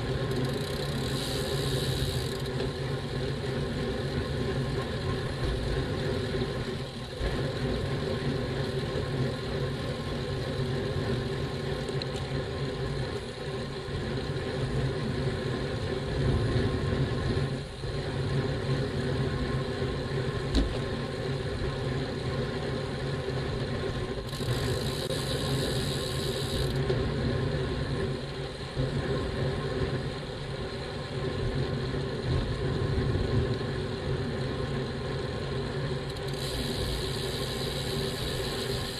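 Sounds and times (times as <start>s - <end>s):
wind and road noise from bicycle: 0.0s - 38.9s.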